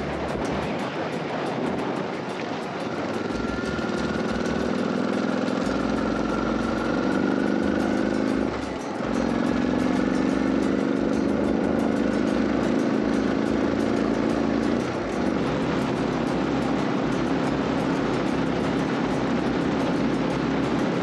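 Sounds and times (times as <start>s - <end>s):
motorcycle engine accelerating: 0.0s - 21.0s
wind noise: 0.0s - 21.0s.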